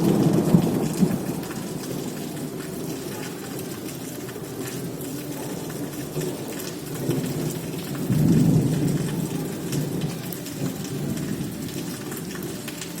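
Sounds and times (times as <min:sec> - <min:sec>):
heavy rain falling: 0:00.0 - 0:13.0
thunder rumbling: 0:00.0 - 0:13.0.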